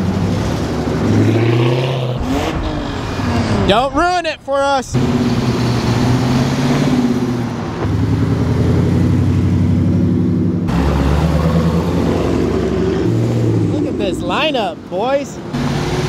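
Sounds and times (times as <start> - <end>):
car engines at low revs: 0.0 - 16.0.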